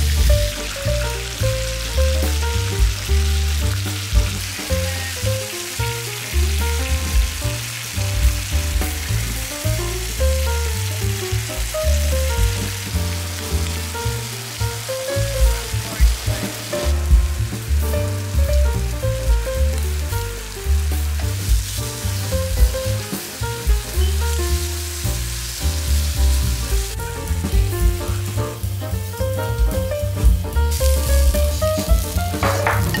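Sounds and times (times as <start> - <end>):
background music with bass line: 0.0 - 33.0
squid sizzling in a pan: 0.0 - 33.0.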